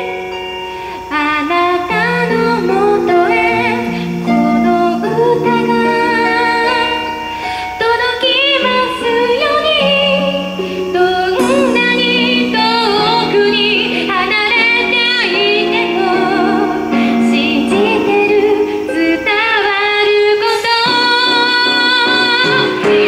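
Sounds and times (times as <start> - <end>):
instrumental accompaniment: 0.0 - 23.0
woman singing pop ballad: 0.0 - 23.0.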